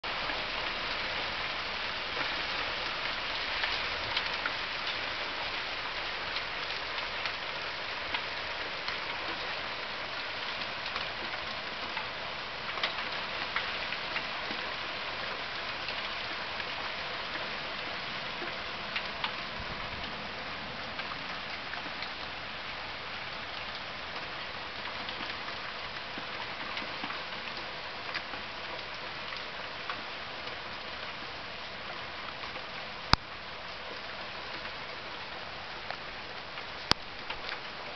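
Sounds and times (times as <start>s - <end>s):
hail falling on path and plants: 0.0s - 37.9s.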